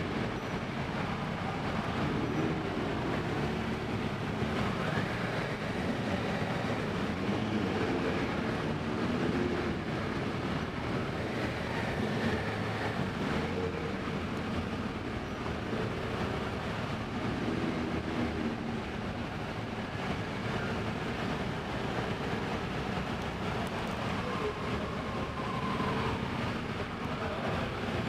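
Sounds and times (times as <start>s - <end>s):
road rumble: 0.0s - 28.0s
wind: 0.0s - 28.0s.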